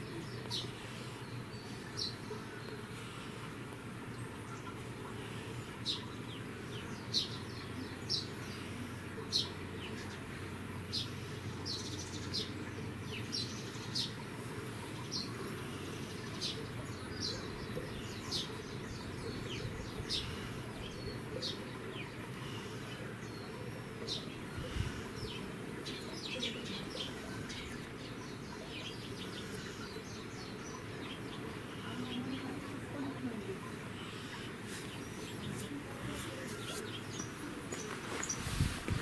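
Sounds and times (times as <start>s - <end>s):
low background noise: 0.0s - 39.0s
small birds chirping: 0.0s - 39.0s.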